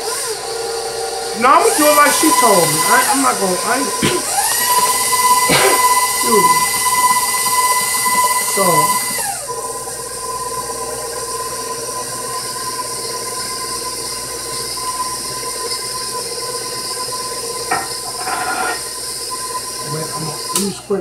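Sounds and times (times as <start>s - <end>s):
stand mixer motor whining: 0.0s - 21.0s.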